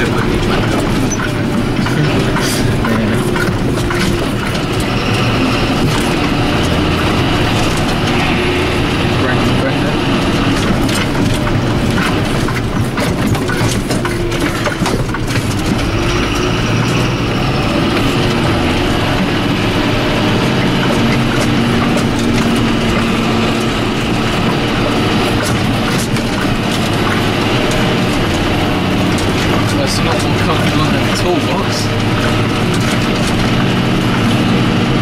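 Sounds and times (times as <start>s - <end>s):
tractor diesel engine running: 0.0s - 35.0s
trailer rattling and knocking: 0.0s - 35.0s.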